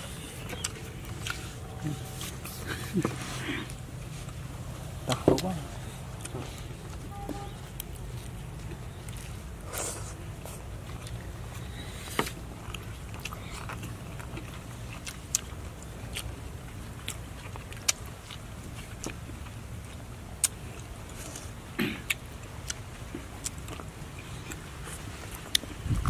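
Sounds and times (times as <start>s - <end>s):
steady low rumble: 0.0s - 23.0s, 25.5s - 26.0s
wet chewing clicks and smacks: 0.0s - 26.0s.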